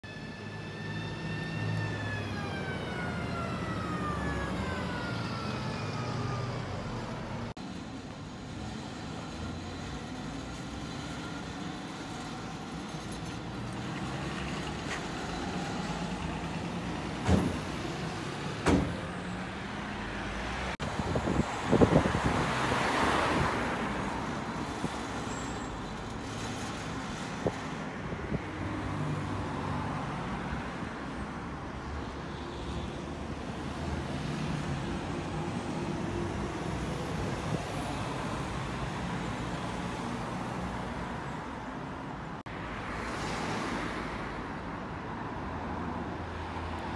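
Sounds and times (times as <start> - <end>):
bus driving off with whine: 0.0 - 42.5
bus engines running: 0.1 - 46.9.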